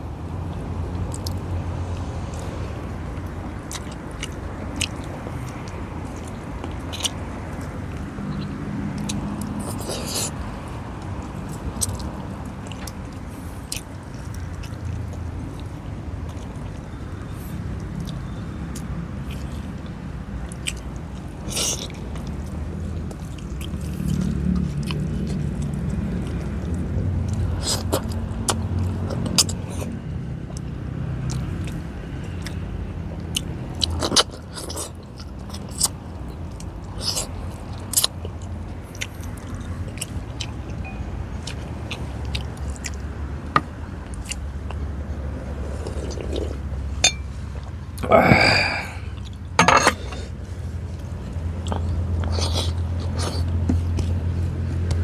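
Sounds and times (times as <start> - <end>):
person chewing: 1.0 - 2.5, 3.1 - 16.9, 19.2 - 55.0.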